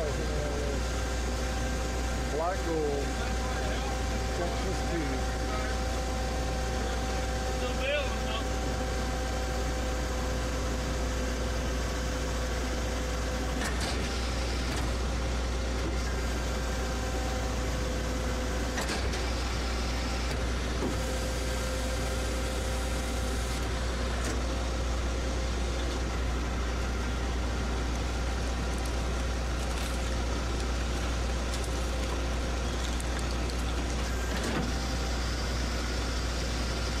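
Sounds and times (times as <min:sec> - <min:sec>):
baler machine humming: 0:00.0 - 0:37.0.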